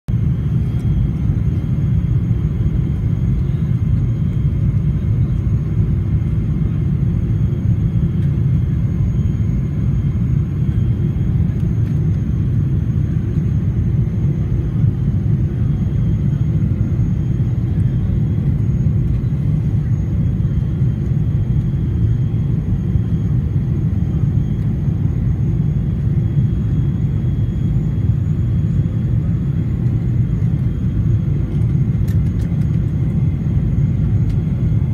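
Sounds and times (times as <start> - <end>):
airliner cabin rumble: 0.1 - 34.9
jet engine whine: 0.1 - 34.9.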